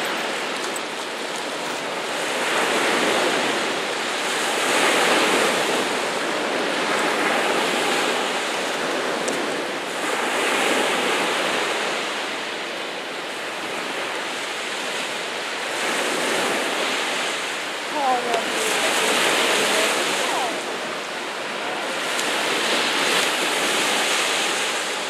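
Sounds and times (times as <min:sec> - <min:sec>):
sea waves washing and churning: 0:00.0 - 0:25.0.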